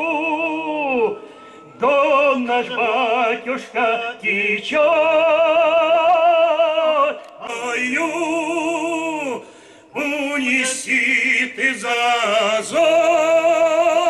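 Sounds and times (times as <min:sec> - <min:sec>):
two men singing in harmony: 0:00.0 - 0:14.0.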